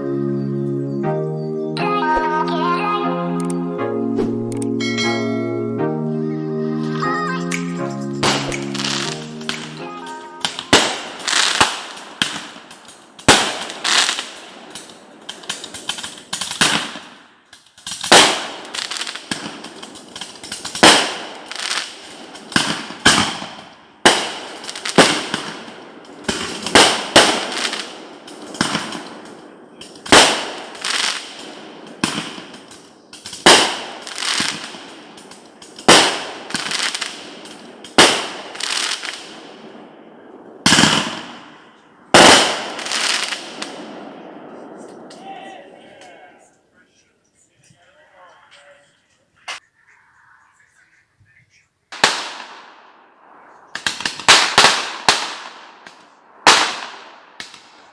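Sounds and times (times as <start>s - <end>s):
fireworks banging and crackling: 6.8s - 49.9s, 51.5s - 57.9s.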